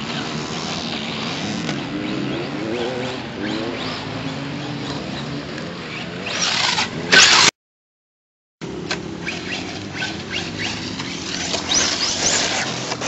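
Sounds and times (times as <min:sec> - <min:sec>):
truck rushing over dirt: 0:00.0 - 0:07.5, 0:08.6 - 0:13.0.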